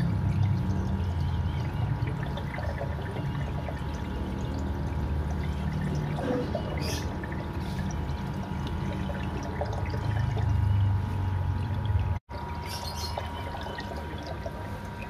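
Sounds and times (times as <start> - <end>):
water pouring in fish tank: 0.0 - 15.0.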